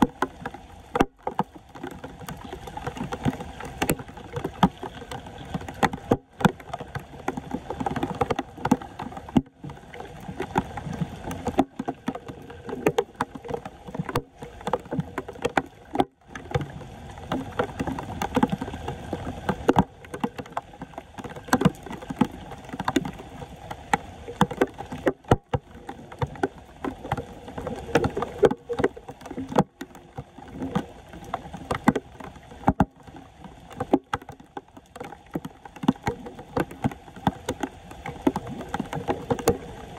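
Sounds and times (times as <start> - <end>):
water sloshing at a drain: 0.0 - 39.9.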